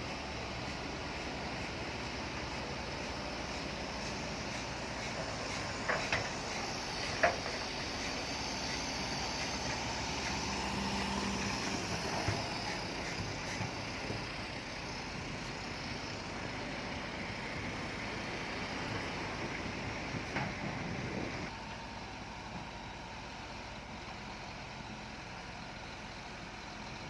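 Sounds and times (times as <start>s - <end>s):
bulldozer engine running: 0.0s - 27.0s.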